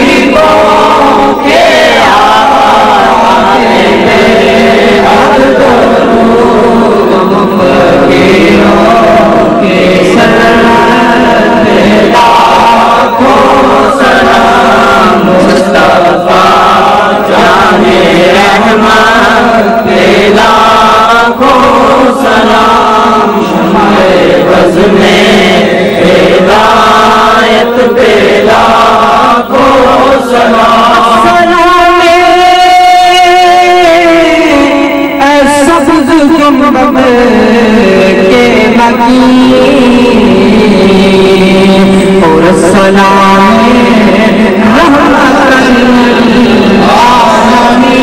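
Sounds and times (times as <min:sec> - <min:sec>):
men chanting devotional song: 0:00.0 - 0:48.0.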